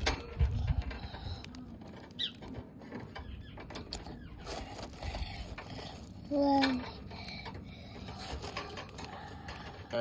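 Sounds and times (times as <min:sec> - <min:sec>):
hamster clicking and rustling: 0:00.0 - 0:10.0.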